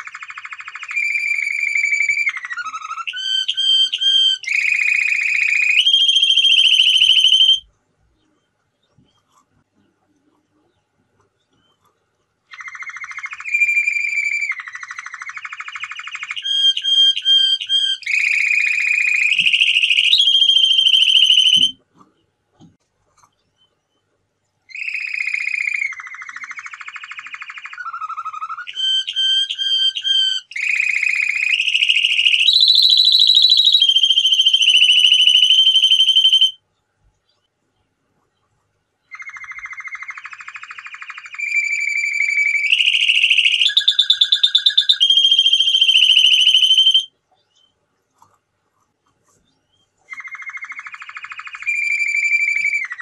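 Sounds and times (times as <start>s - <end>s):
canary singing trills and whistles: 0.0s - 9.9s, 11.4s - 22.2s, 23.2s - 36.7s, 38.4s - 47.8s, 49.3s - 53.0s.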